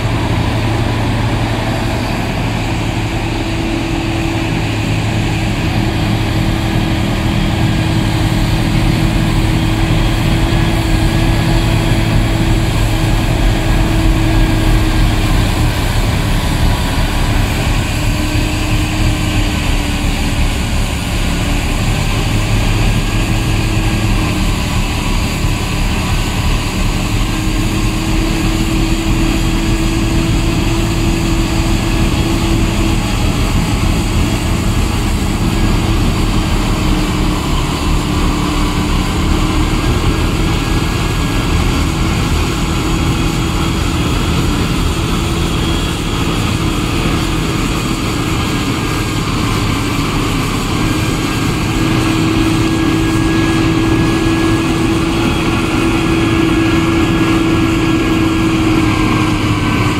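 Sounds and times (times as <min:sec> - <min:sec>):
higher hum: 0:00.0 - 0:59.9
loader diesel engine running hard: 0:00.0 - 0:59.9
truck diesel engine running: 0:00.0 - 0:59.9.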